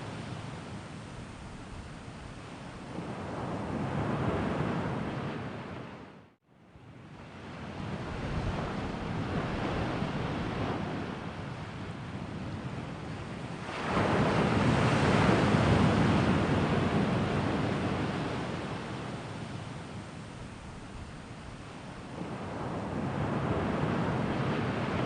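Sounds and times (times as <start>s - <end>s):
sea waves washing in: 0.0s - 6.4s, 7.0s - 25.0s.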